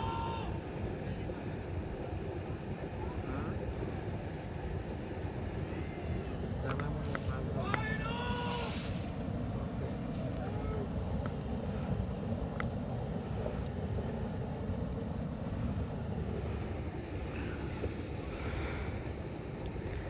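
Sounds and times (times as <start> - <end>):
insect trilling: 0.0 - 19.0.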